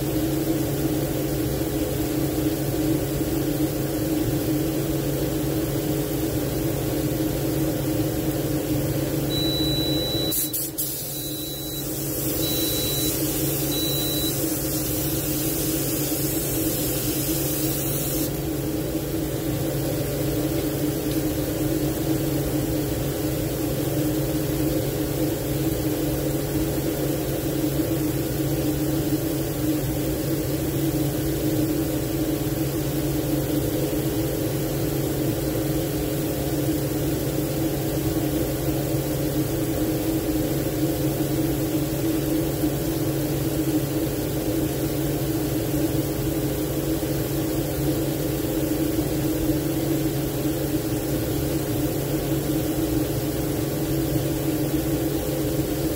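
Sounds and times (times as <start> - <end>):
machine hum: 0.0 - 55.9.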